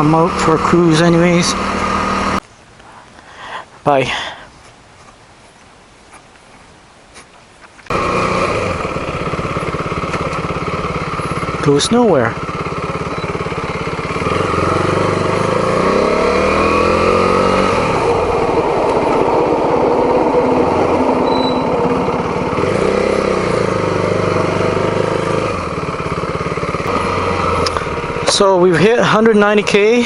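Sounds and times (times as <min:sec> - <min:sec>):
motorcycle engine accelerating: 0:00.0 - 0:02.4, 0:07.9 - 0:30.0.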